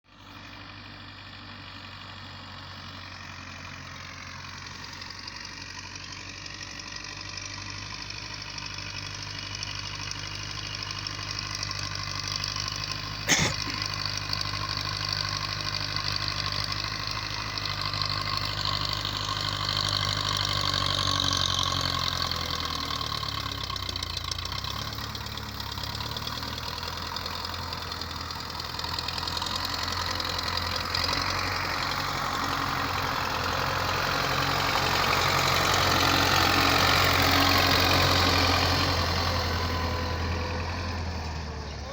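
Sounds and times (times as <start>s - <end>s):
tractor engine running: 0.1s - 41.9s.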